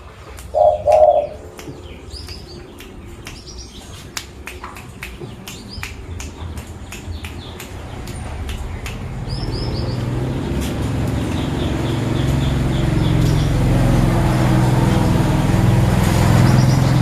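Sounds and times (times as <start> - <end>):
birds chirping: 0.0 - 17.0
motor vehicle engine: 0.0 - 17.0.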